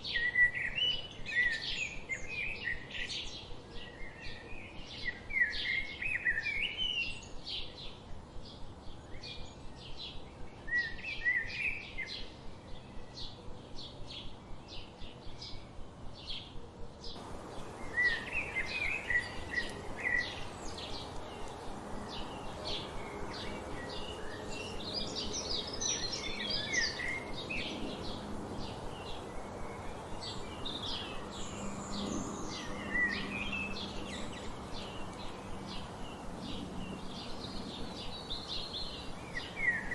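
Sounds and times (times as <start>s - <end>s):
background hiss: 0.0s - 39.9s
songbirds chipping: 0.0s - 39.9s
warbled bird song: 0.0s - 39.9s.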